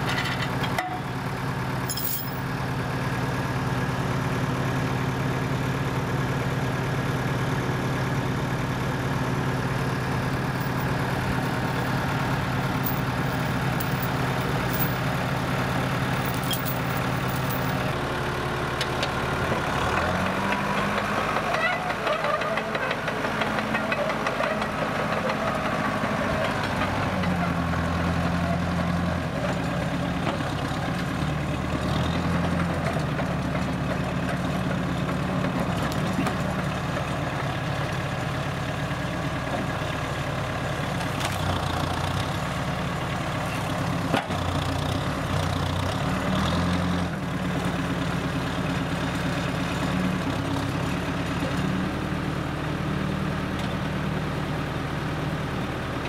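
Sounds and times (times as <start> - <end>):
crawler loader engine running: 0.0 - 56.0.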